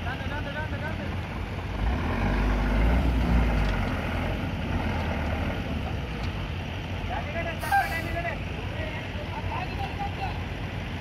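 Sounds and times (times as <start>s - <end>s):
low rumble of vehicle engines: 0.0s - 11.0s.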